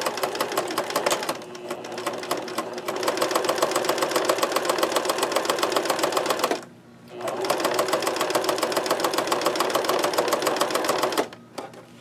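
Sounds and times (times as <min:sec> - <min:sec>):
sewing machine stitching: 0:00.0 - 0:11.4.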